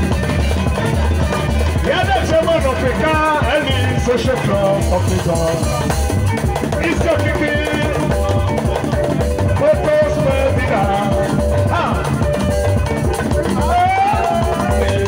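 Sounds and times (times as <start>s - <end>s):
drum kit beat: 0.0s - 15.0s
live band music: 0.0s - 15.0s.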